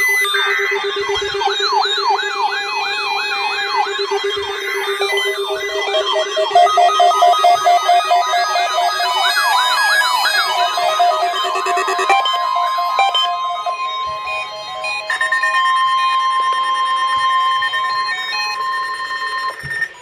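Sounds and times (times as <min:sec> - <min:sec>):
electronic siren sweeps: 0:00.0 - 0:20.0
steady alarm tone: 0:00.0 - 0:20.0
rapid stepped beeps: 0:03.0 - 0:20.0.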